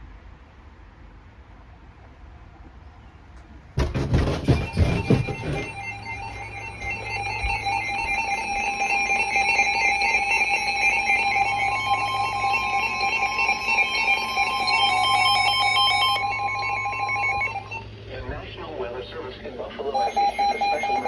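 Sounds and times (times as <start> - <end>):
harsh two-tone alarm tone: 3.8 - 21.0.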